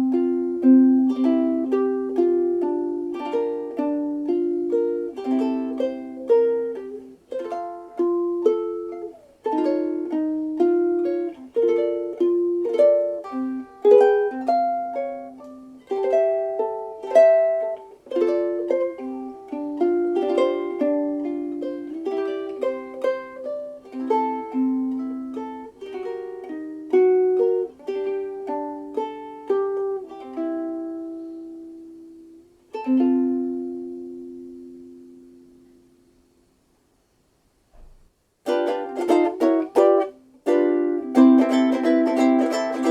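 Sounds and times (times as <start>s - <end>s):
ukulele chords strummed: 0.0s - 36.3s, 37.8s - 42.9s
picked ukulele melody notes: 0.0s - 36.6s, 37.7s - 42.9s.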